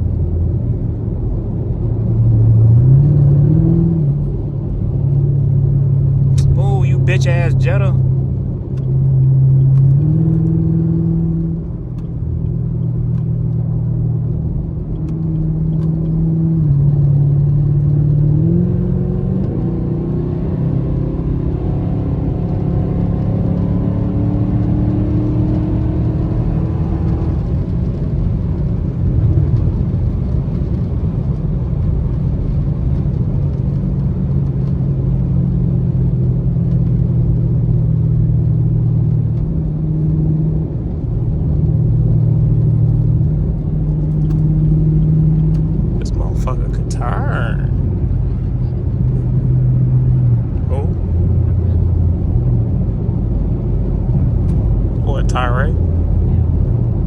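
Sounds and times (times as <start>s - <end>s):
car engine and exhaust droning: 0.0s - 57.0s.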